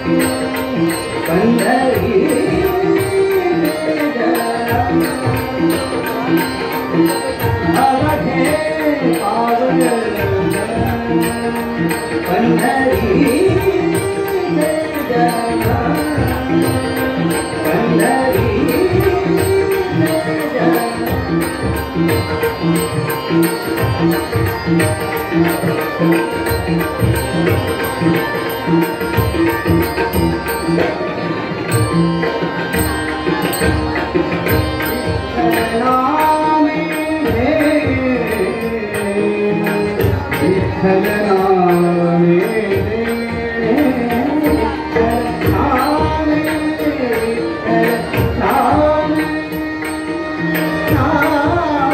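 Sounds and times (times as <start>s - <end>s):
man singing: 0.0s - 31.4s, 33.4s - 51.9s
harmonium: 0.0s - 51.9s
tabla beat: 0.0s - 51.9s.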